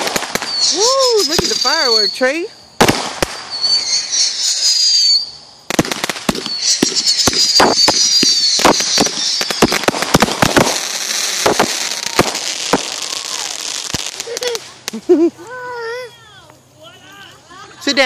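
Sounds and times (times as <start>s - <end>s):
fireworks popping and crackling: 0.0s - 15.4s
fireworks hissing: 0.0s - 18.0s.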